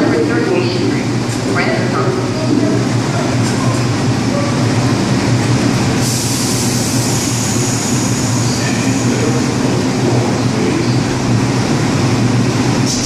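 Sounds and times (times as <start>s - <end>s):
subway train electric hum: 0.0s - 13.0s.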